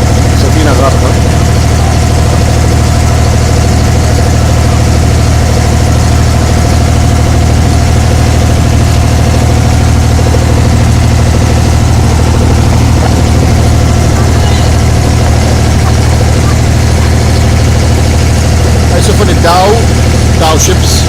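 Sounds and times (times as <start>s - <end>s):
boat diesel engine drone: 0.0s - 21.0s.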